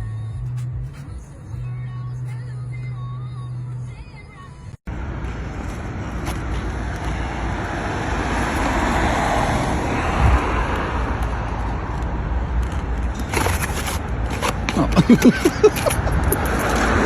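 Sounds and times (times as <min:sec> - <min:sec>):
road vehicle rumbling: 0:00.0 - 0:17.0.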